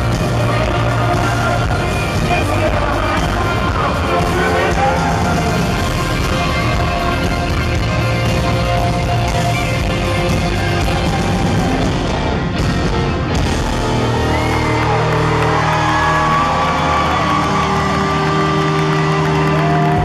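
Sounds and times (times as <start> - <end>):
drums: 0.0 - 20.0
electric guitar lead: 0.0 - 20.0.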